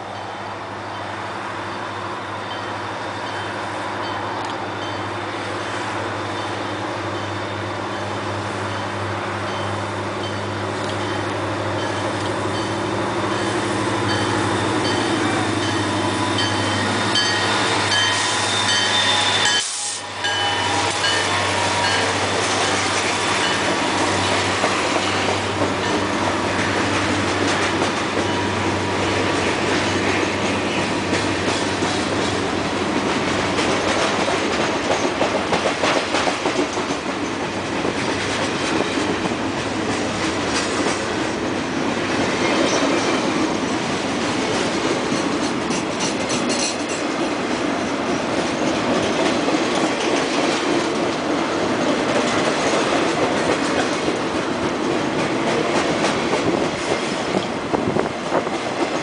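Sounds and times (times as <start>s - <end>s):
diesel locomotive engine: 0.0s - 59.0s.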